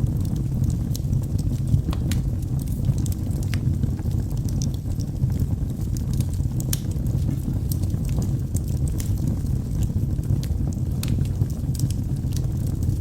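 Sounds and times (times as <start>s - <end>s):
fire rumbling: 0.0s - 13.0s
logs crackling and popping: 0.0s - 13.0s.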